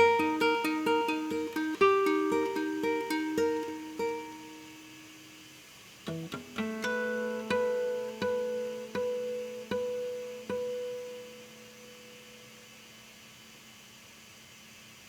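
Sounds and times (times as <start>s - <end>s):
classical guitar plucked chords: 0.0s - 12.8s.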